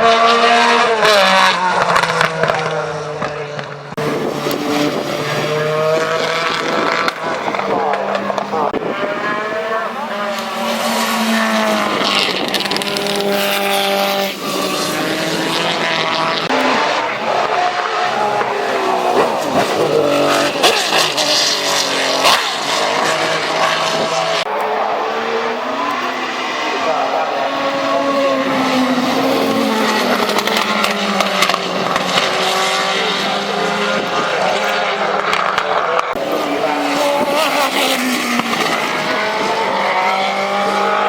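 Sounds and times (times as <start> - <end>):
racing car engines revving: 0.0 - 41.0.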